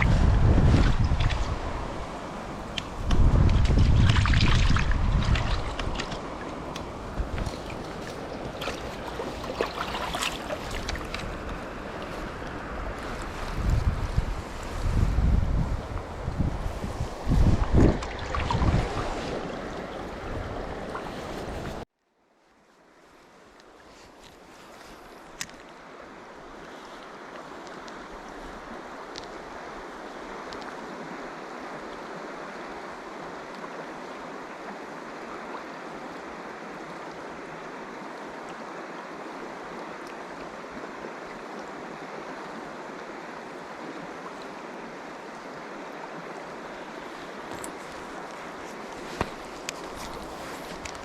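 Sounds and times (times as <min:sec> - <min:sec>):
stream water rushing: 0:00.0 - 0:21.9, 0:23.0 - 0:51.0.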